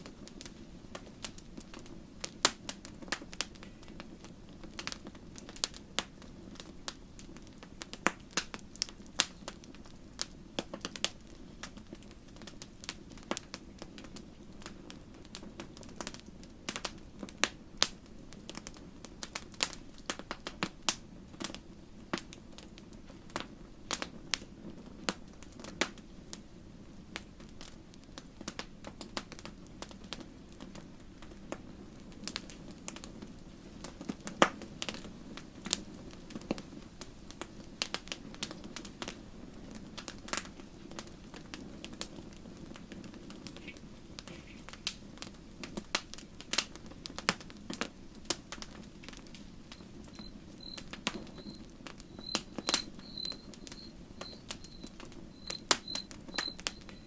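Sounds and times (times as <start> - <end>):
campfire crackling and popping: 0.0 - 57.0
low rush of flame: 0.0 - 57.0.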